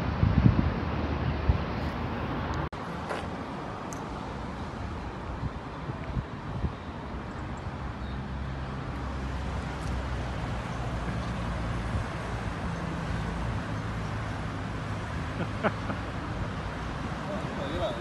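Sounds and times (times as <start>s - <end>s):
cars driving past: 0.0s - 18.0s.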